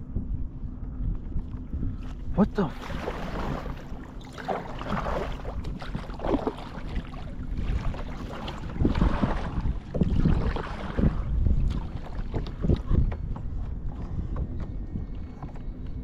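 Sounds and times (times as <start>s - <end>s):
wind buffeting microphone: 0.0s - 16.0s
water lapping around kayak: 0.2s - 16.0s.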